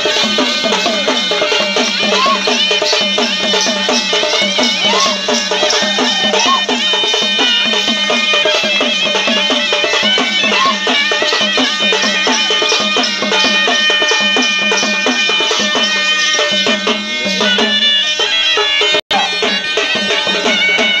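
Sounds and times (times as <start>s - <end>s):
drums beating: 0.0s - 21.0s
wind instrument melody: 0.0s - 21.0s.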